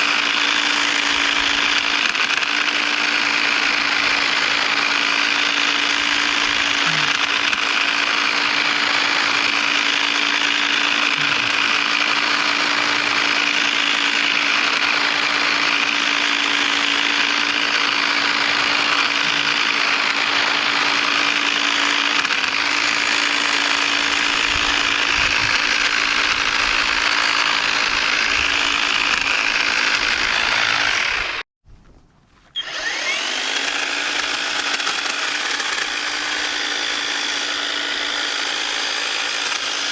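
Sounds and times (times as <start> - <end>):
hedge trimmer running: 0.0 - 31.5, 32.6 - 39.9.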